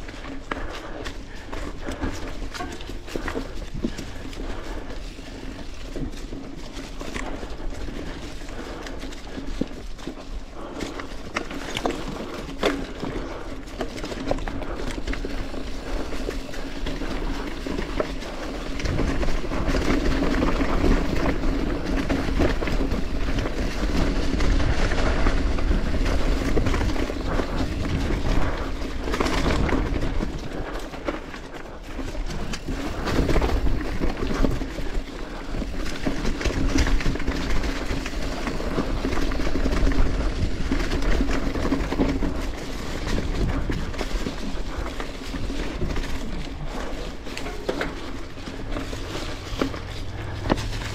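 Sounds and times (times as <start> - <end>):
bike tyres crunching dry leaves: 0.0 - 50.9
bike clattering over rocks: 0.1 - 50.9.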